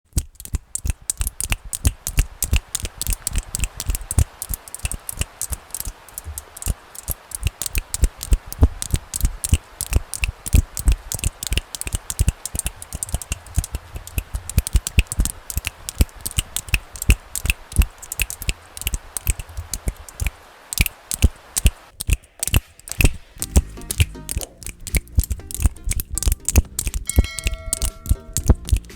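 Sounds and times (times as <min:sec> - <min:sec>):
fast finger clicks: 0:00.1 - 0:28.9
faint steady hiss: 0:00.2 - 0:28.9.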